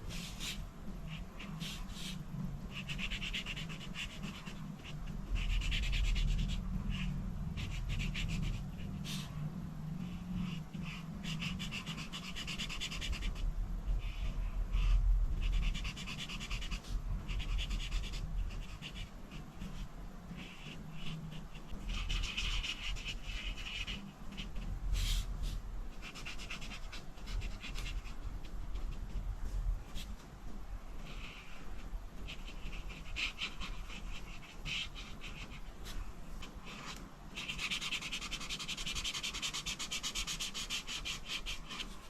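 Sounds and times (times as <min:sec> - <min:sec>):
coloring tool scratching paper: 0:00.0 - 0:30.1, 0:31.0 - 0:42.0
low steady hum: 0:00.0 - 0:42.0.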